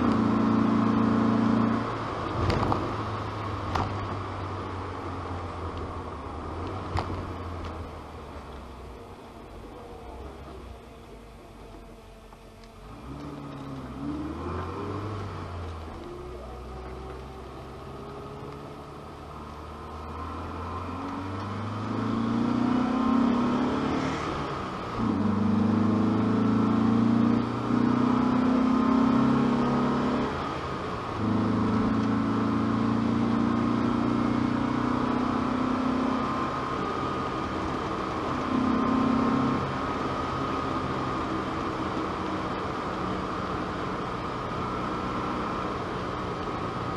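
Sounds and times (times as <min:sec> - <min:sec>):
car engine and exhaust from cabin: 0:00.0 - 0:46.9.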